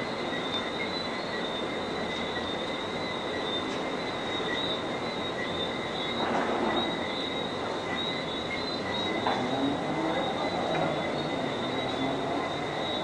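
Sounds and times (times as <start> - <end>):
constant hiss: 0.0 - 13.0
high-pitched night insect calls: 0.0 - 13.0.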